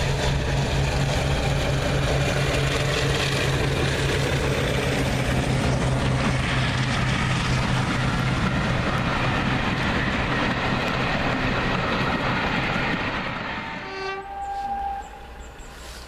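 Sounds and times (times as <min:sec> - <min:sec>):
diesel locomotive drone: 0:00.0 - 0:16.0
train wheels rumbling on rails: 0:00.0 - 0:16.0.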